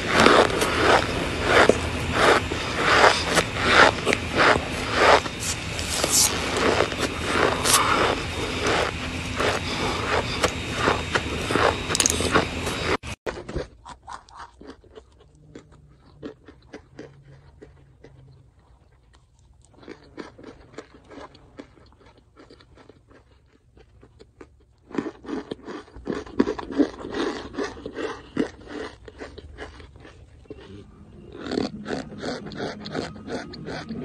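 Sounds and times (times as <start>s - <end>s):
chewing crunchy chunks: 0.0s - 34.0s.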